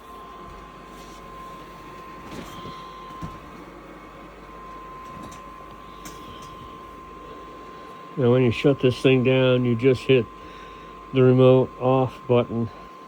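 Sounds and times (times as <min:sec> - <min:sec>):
heater humming: 0:00.0 - 0:13.0
high whine: 0:00.0 - 0:13.0.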